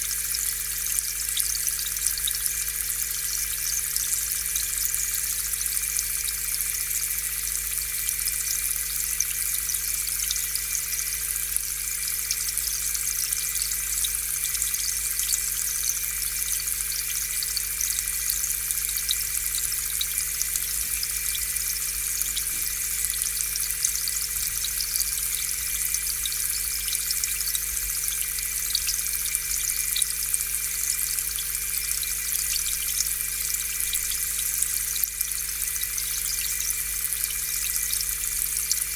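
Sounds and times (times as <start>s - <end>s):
aquarium air pump humming: 0.0s - 38.9s.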